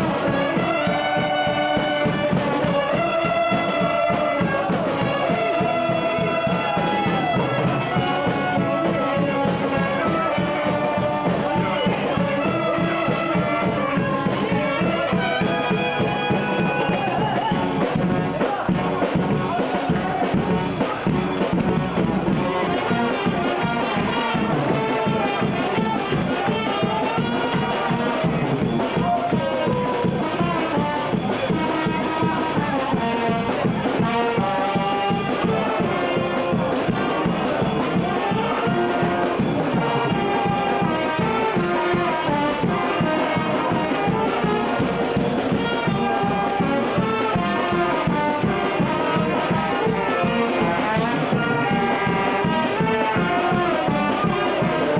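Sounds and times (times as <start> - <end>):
brass band playing: 0.0 - 54.9
saxophones and trumpets melody: 0.0 - 54.9
steady drum beat: 0.0 - 54.9.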